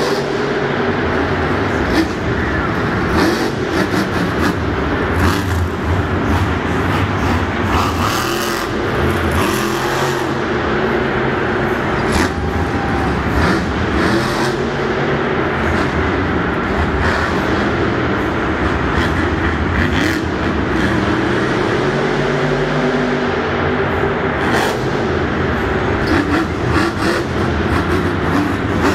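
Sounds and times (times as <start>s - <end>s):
truck engine revving: 0.0s - 28.9s.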